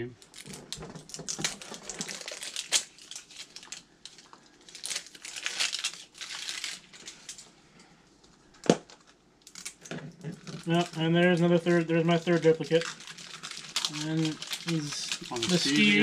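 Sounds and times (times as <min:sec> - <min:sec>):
plastic packaging crinkling: 0:00.2 - 0:07.6, 0:08.6 - 0:16.0.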